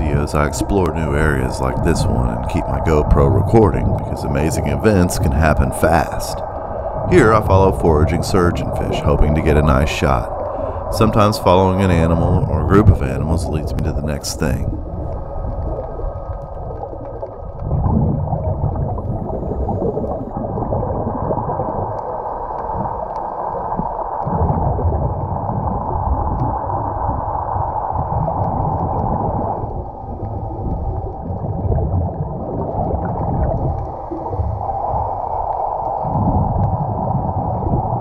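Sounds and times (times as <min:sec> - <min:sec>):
low underwater rumble: 0:00.0 - 0:38.0
muffled underwater rush: 0:00.0 - 0:38.0.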